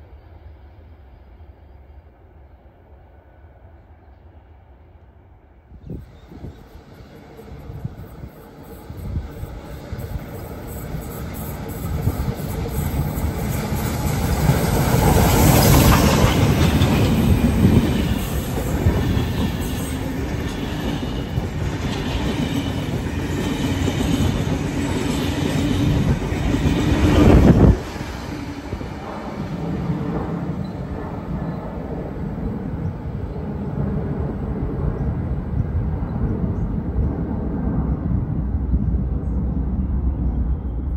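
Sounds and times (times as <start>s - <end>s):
train wheels rumbling over track: 0.0s - 40.9s.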